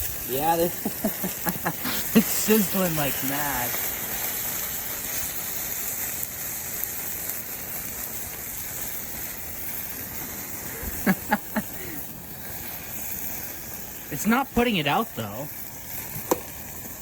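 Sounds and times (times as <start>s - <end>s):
hiss of steam and fire: 0.0s - 17.0s.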